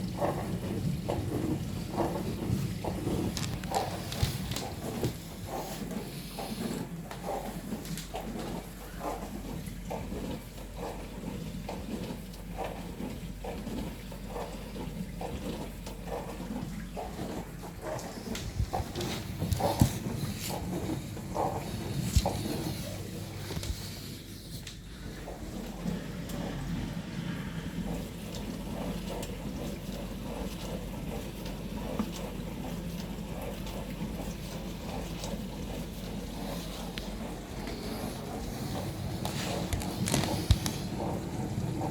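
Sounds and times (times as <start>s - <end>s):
dishwasher hum: 0.0s - 41.9s
water splashing and sloshing: 0.0s - 41.9s.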